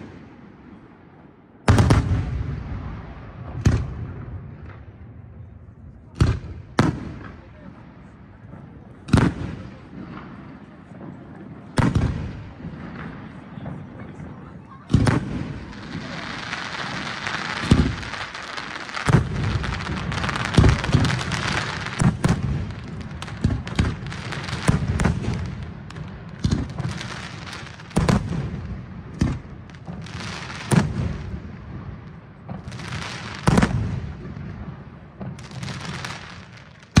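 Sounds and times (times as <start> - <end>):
crackling firework stars: 0.0 - 37.0
firework shells booming: 6.2 - 14.3, 14.9 - 37.0.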